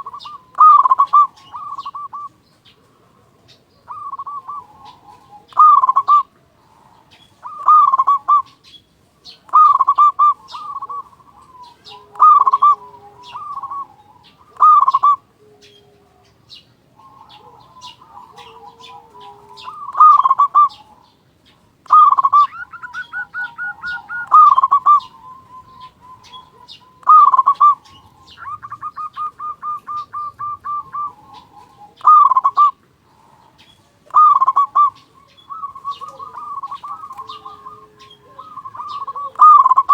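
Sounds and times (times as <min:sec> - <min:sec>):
rapid bird trilling: 0:00.0 - 0:02.4, 0:03.6 - 0:21.2, 0:21.8 - 0:39.9
dove cooing: 0:00.0 - 0:39.9.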